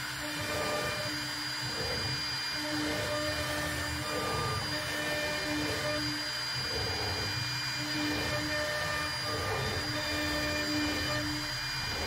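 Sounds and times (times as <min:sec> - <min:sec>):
router spindle whining: 0:00.0 - 0:12.0
low motor hum: 0:00.3 - 0:12.0.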